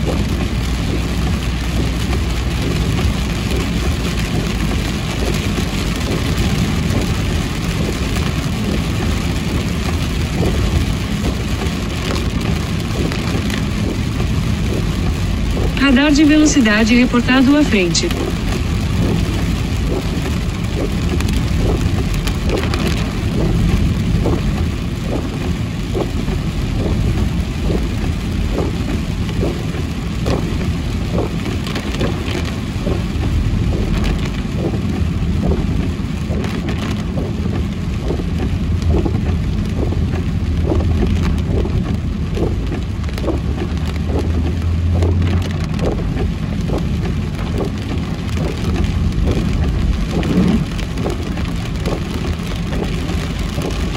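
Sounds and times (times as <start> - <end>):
engine and tyre rumble: 0.0 - 53.9
heavy rain on car: 0.0 - 53.9.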